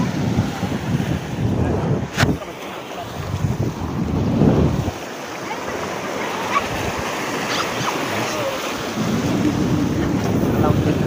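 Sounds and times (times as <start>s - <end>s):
small waves washing over reef: 0.0s - 11.0s
wind buffeting microphone: 0.0s - 11.0s.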